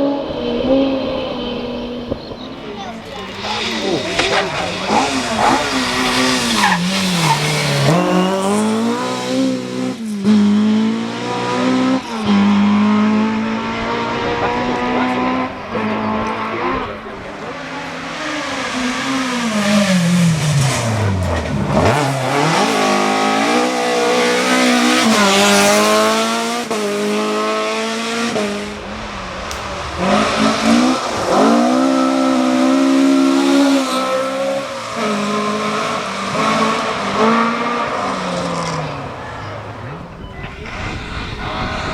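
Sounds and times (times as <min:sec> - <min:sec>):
car passing by: 0:00.0 - 0:41.9
rally car engines revving: 0:00.0 - 0:41.9.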